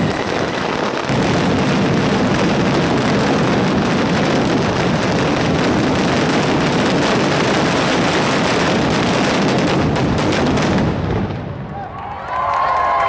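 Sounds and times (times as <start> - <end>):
firecrackers exploding in barrage: 0.0 - 11.8.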